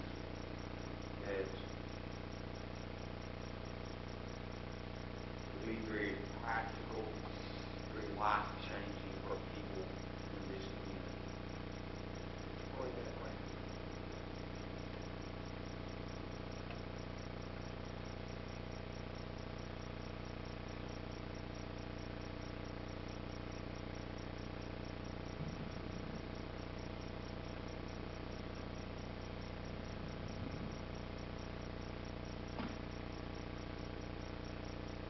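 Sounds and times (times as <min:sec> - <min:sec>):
electrical hum and hiss: 0:00.0 - 0:35.0.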